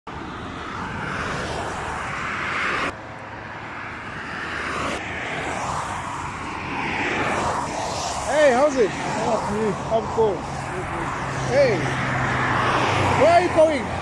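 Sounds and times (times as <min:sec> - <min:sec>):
vehicles passing: 0:00.1 - 0:14.0.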